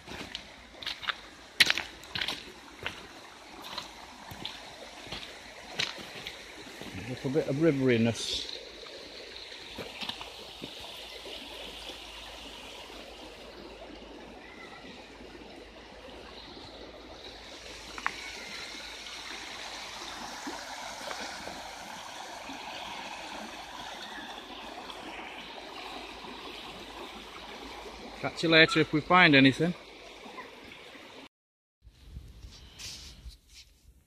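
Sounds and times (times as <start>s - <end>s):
river water over stones: 0.0s - 31.3s.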